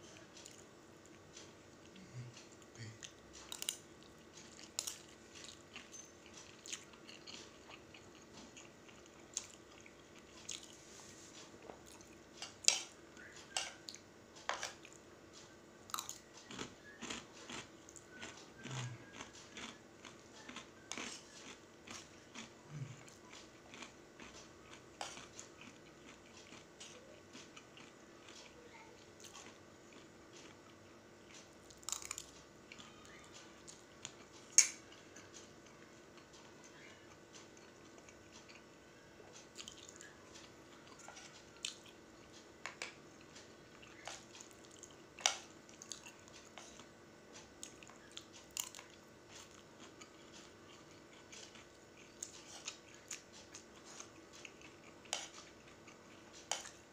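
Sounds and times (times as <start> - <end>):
person chewing noodles: 0.1 - 56.9.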